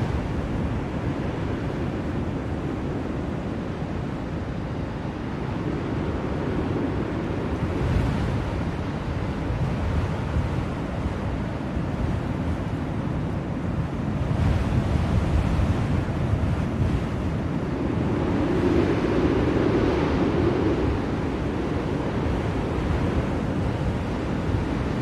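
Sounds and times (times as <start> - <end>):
blizzard wind blowing: 0.0 - 25.0.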